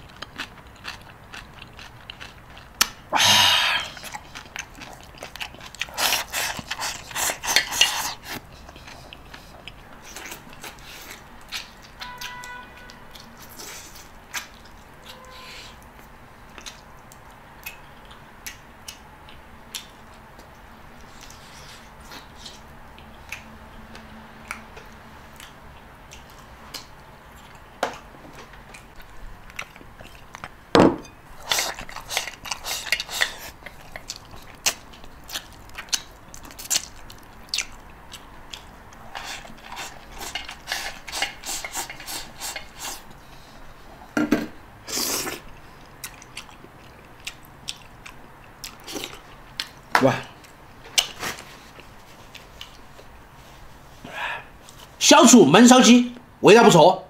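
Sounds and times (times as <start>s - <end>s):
chewing: 0.0s - 3.1s, 3.7s - 43.9s, 44.9s - 55.0s.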